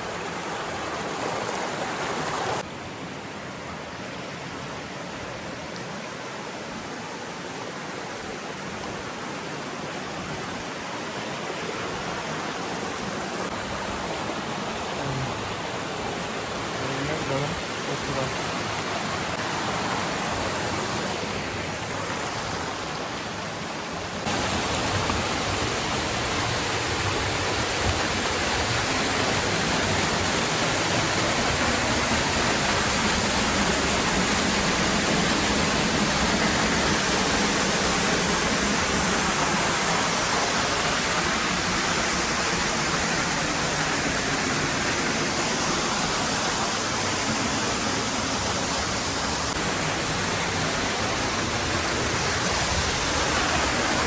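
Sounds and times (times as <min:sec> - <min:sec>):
waterfall rushing: 0:00.0 - 0:03.0, 0:07.0 - 0:54.0.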